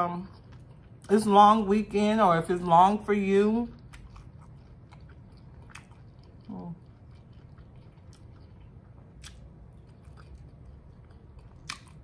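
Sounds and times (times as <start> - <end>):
person chewing: 0.0 - 1.4, 3.6 - 12.0.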